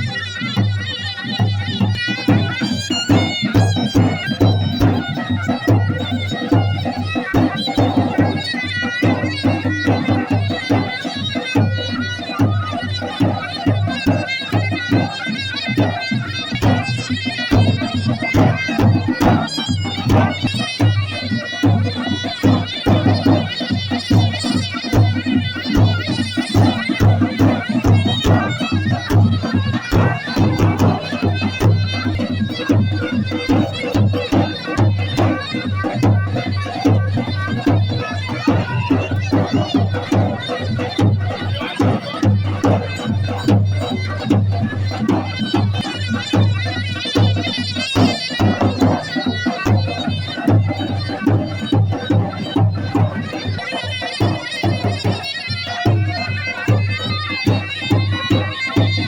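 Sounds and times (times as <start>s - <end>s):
shrill wind instrument melody: 0.0s - 59.0s
steady drum beat: 0.0s - 59.0s.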